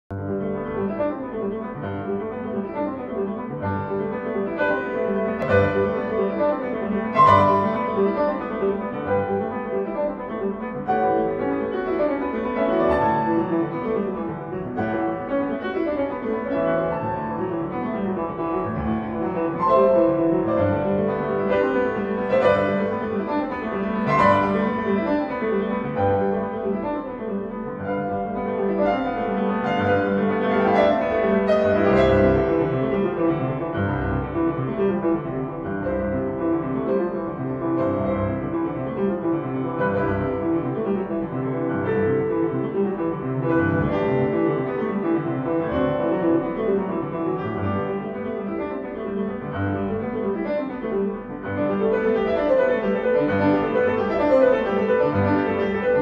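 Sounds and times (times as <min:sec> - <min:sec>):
piano music: 0:00.1 - 0:56.0.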